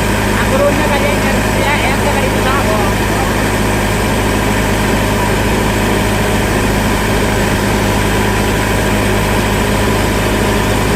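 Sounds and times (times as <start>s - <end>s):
diesel engine running steadily: 0.0s - 10.9s.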